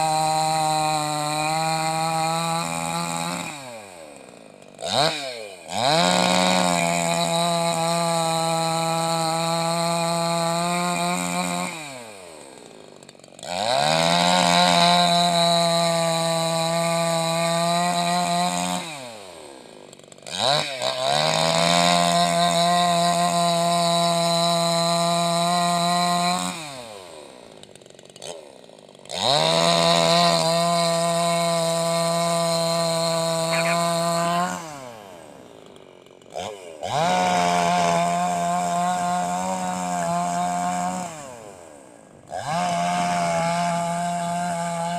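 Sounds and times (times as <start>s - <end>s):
chainsaw revving and idling: 0.0s - 44.9s.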